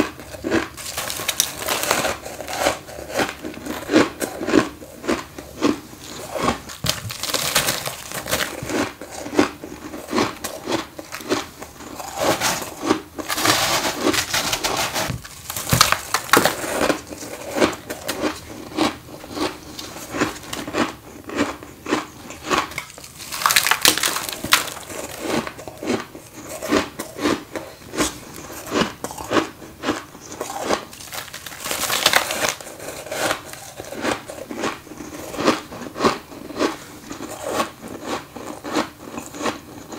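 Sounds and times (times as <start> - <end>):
crisp crunch of biting frost: 0.4 - 27.4, 28.0 - 39.9.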